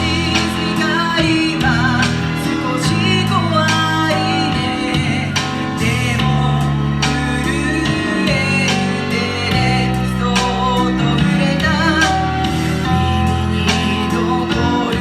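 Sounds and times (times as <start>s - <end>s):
person singing: 0.0s - 15.0s
sustained bass notes: 0.0s - 15.0s.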